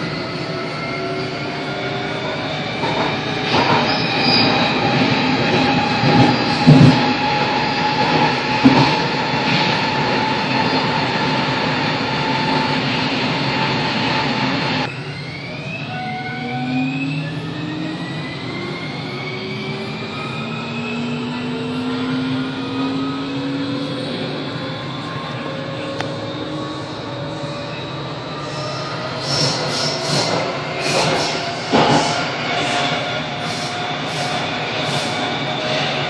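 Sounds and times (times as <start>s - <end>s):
train rumble with whine: 0.0s - 36.0s.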